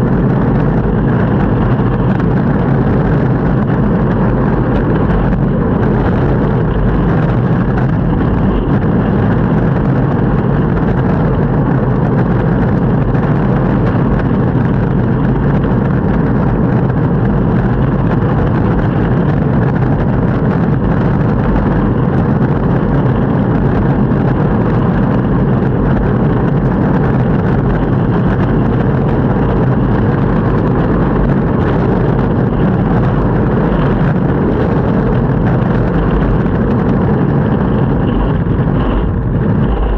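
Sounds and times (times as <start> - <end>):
skateboard wheels rolling on pavement: 0.0 - 39.9.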